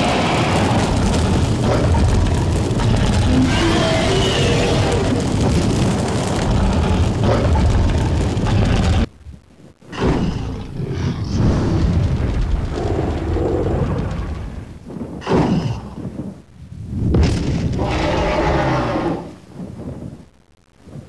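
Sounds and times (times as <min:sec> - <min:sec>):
rumbling fire-like roar: 0:00.0 - 0:21.0.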